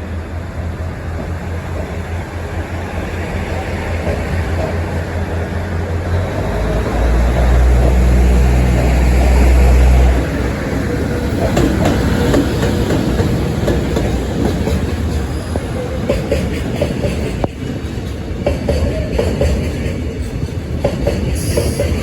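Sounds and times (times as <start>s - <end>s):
electric locomotive passing: 0.0s - 22.0s.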